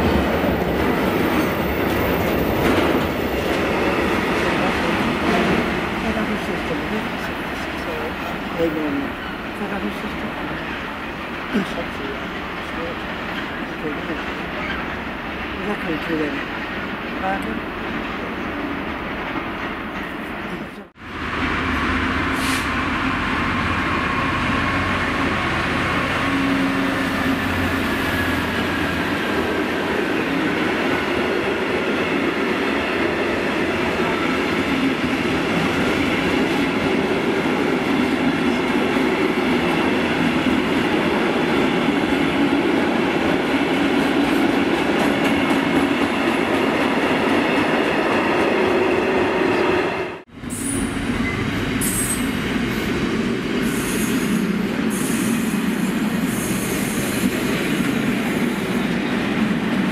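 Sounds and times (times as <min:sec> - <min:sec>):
diesel locomotive passing: 0:00.0 - 0:59.9
wagons rumbling on rails: 0:00.0 - 0:59.9.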